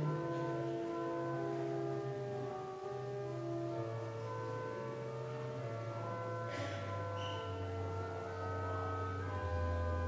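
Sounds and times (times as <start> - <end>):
organ playing sustained chords: 0.0 - 10.0.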